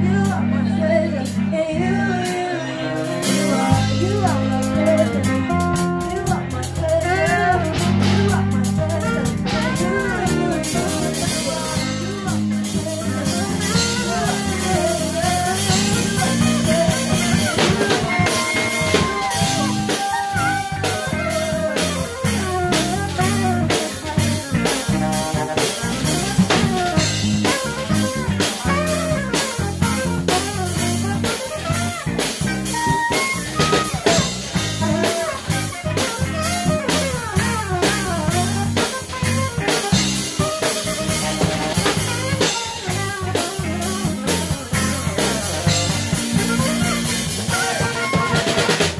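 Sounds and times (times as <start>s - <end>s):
bass: 0.0s - 48.9s
drum kit: 0.0s - 48.9s
electric guitar: 0.0s - 48.9s
saxophones playing melody: 2.8s - 48.9s.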